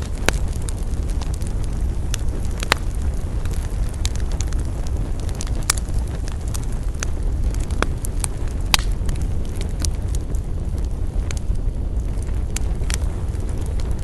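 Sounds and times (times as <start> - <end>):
campfire crackling: 0.0 - 14.0
low rumble: 0.0 - 14.0.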